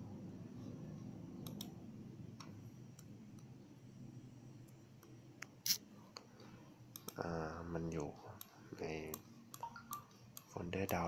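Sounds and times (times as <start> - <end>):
faint low background hum: 0.0 - 11.0.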